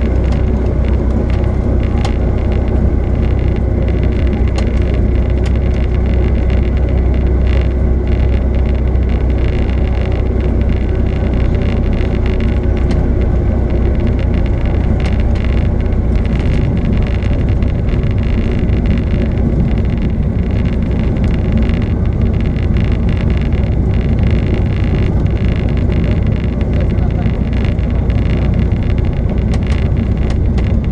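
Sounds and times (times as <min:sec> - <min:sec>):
loud engine drone: 0:00.0 - 0:30.9.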